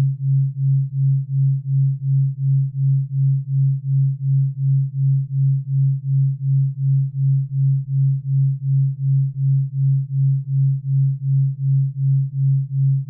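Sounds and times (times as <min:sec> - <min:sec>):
pulsing low electronic hum: 0:00.0 - 0:13.0.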